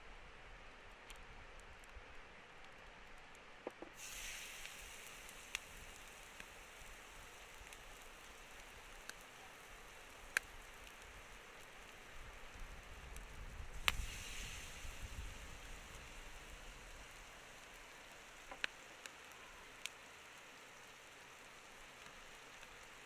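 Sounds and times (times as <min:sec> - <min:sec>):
fire crackling and popping: 0:00.4 - 0:23.0
fire hissing: 0:03.7 - 0:23.0.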